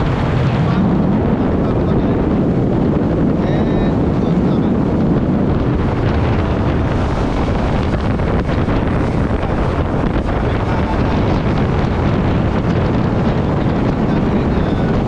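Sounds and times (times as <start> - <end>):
hull rushing through water: 0.0 - 15.0
outboard motor running: 0.0 - 15.0
wind buffeting microphone: 0.0 - 15.0.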